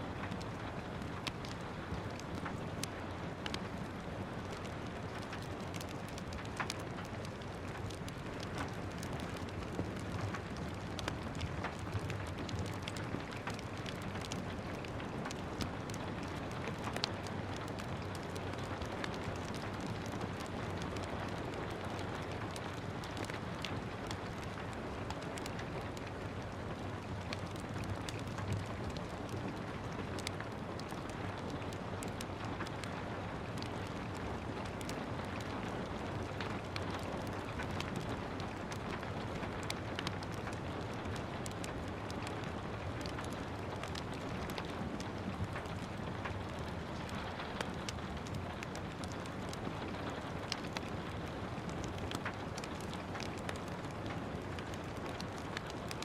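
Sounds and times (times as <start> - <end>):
steady rain: 0.0 - 56.0
wood fire crackling and popping: 0.0 - 56.0.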